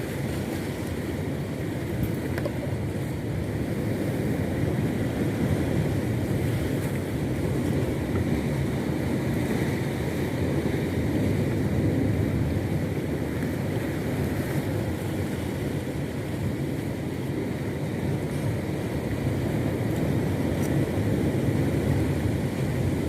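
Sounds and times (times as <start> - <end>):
boat motor drone: 0.0 - 23.0
rushing water: 0.0 - 23.0
wind buffeting microphone: 0.0 - 23.0.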